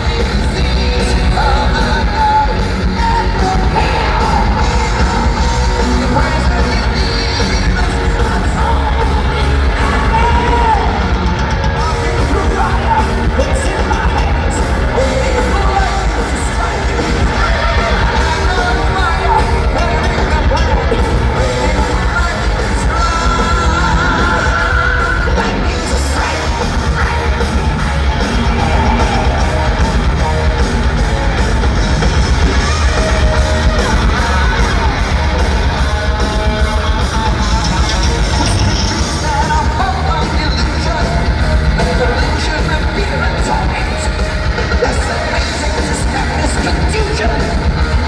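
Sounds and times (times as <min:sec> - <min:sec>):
heavy metal band playing: 0:00.0 - 0:48.0
shouted sung lead vocals: 0:00.0 - 0:48.0.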